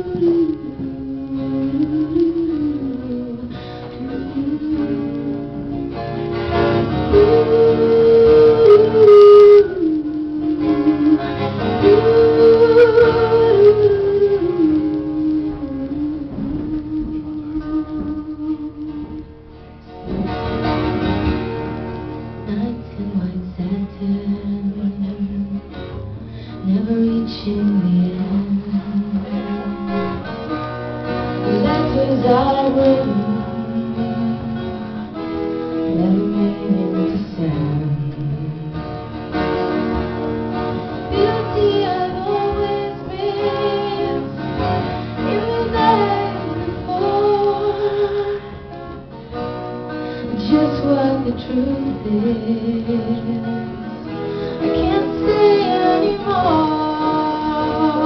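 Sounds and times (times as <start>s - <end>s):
woman singing: 0.0s - 19.4s, 22.4s - 38.7s, 41.0s - 48.7s, 50.2s - 58.0s
acoustic guitar playing: 0.0s - 58.0s.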